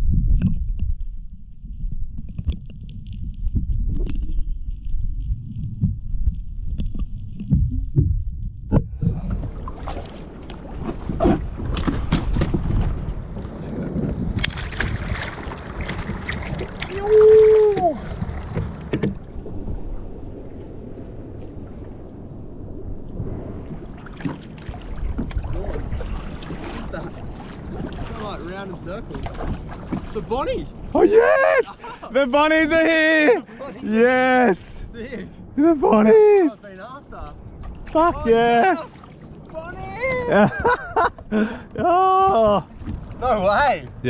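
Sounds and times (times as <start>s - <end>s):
water and wind noise: 0.0s - 44.0s.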